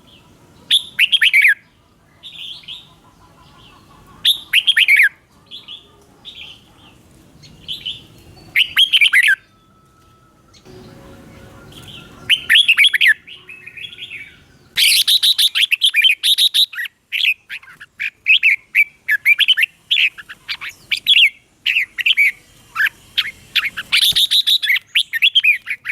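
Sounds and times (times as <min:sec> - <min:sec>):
bulbul warbling song: 0:00.0 - 0:25.9.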